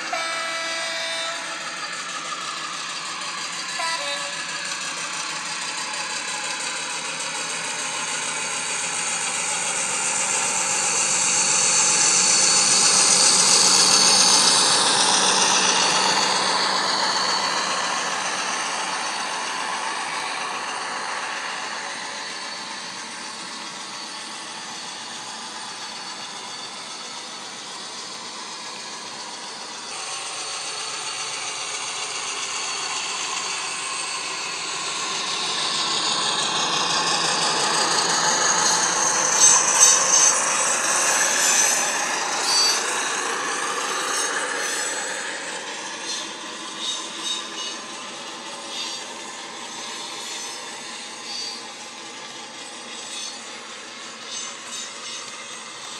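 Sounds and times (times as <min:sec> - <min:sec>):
high sweeping whine: 0:00.0 - 0:55.9
model train diesel engine sound: 0:00.0 - 0:55.9
model wheels rattling on track: 0:01.8 - 0:55.9.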